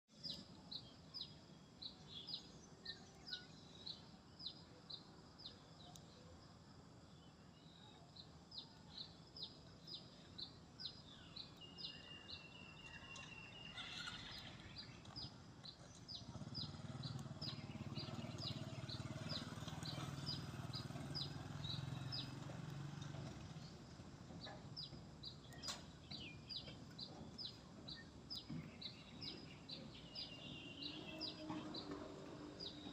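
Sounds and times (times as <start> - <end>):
bird chirping: 0.1 - 32.9.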